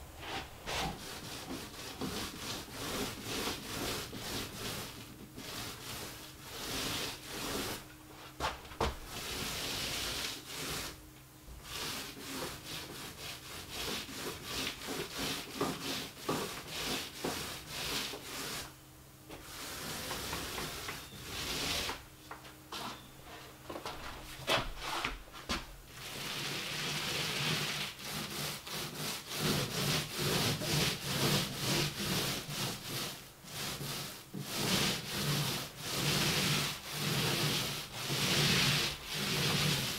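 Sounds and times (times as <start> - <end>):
paint roller swishing on wall: 0.0 - 39.9.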